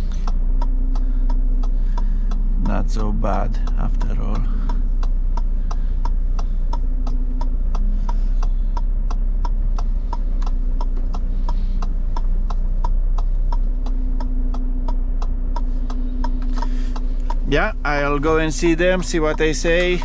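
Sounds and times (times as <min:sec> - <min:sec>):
indicators ticking: 0:00.0 - 0:20.0
truck engine idling: 0:00.0 - 0:20.0.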